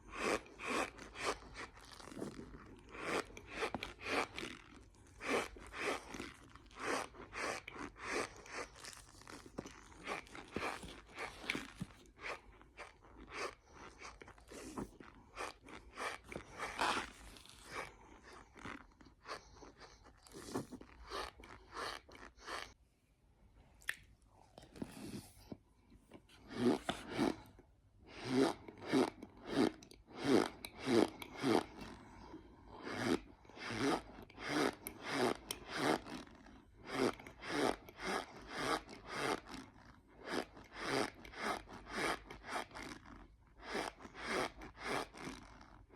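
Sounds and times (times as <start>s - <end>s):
person chewing squeaky crunchy food: 0.0s - 22.8s, 28.1s - 45.9s.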